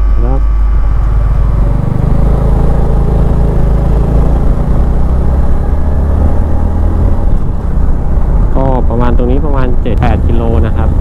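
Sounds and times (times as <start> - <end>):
motorcycle engine cruising: 0.8 - 11.0
wind and road noise: 0.8 - 11.0.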